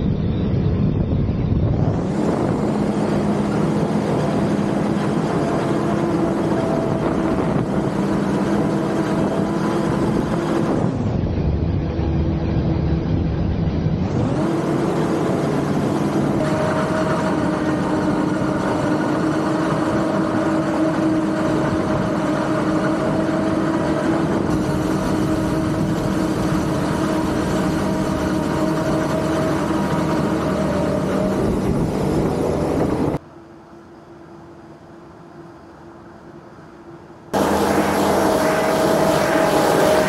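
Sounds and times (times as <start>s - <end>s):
machine whine: 0.0s - 40.0s.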